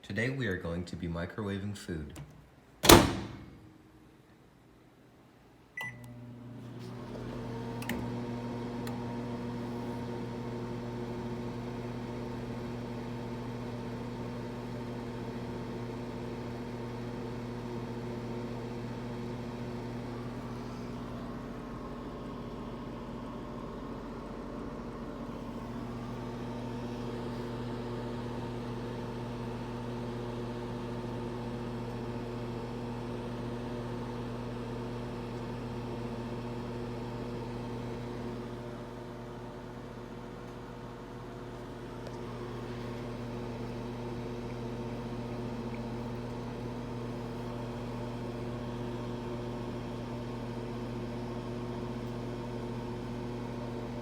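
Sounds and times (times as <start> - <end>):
microwave oven hum: 2.8 - 4.2, 5.6 - 54.0.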